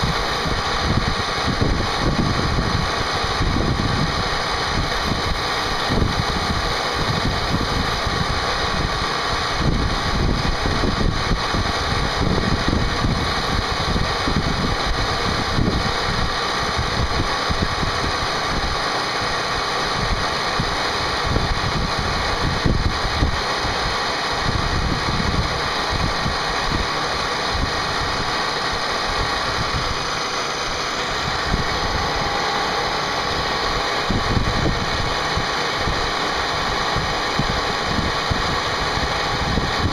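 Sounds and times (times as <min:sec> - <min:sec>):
rough machine rumble: 0:00.0 - 0:39.9
spindle whine: 0:00.0 - 0:39.9.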